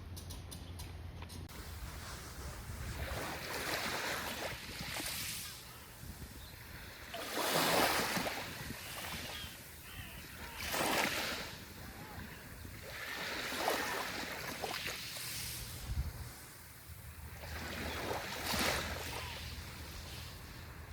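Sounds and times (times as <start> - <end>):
small waves breaking on shore: 1.5 - 20.9.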